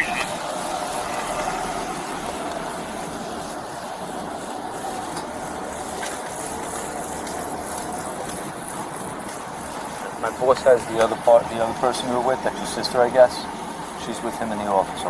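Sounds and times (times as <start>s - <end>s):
vehicle rushing hum: 0.0s - 14.2s.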